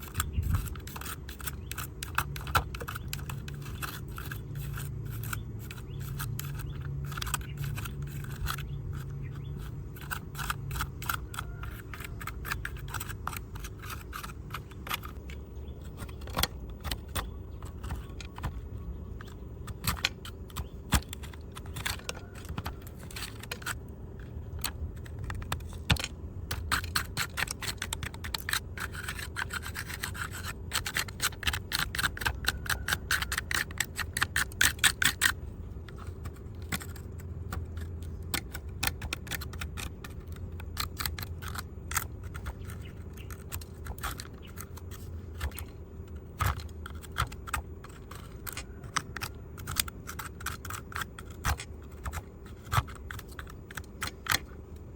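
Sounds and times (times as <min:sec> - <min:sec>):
scraping a small model car: 0:00.0 - 0:54.9.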